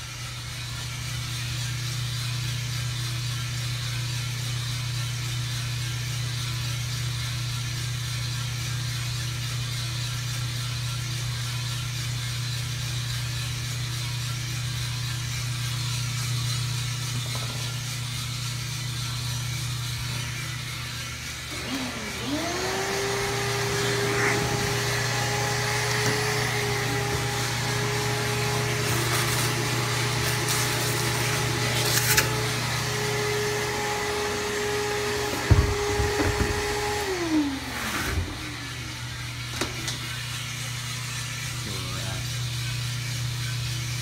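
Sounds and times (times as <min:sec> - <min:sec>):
coffee roaster humming: 0:00.0 - 0:44.0
cooling tray motor spinning: 0:00.0 - 0:44.0.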